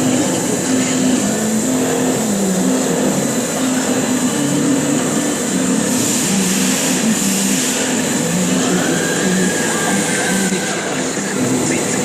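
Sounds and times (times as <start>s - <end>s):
motor tones changing pitch: 0.0s - 11.8s
milling machine spindle whine: 0.0s - 12.0s.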